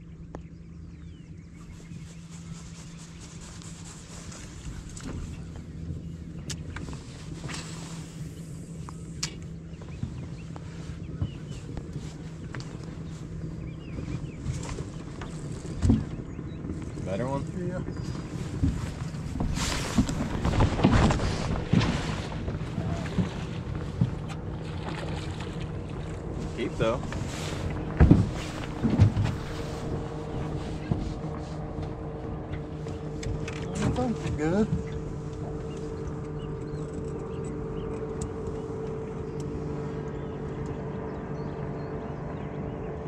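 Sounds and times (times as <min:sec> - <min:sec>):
boat motor humming: 0:00.0 - 0:43.0
wind on microphone: 0:01.5 - 0:43.0.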